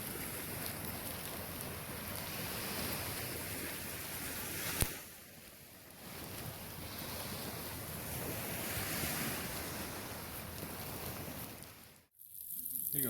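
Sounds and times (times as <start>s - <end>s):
wind on microphone: 0.0s - 11.8s
ocean surf: 0.0s - 12.1s.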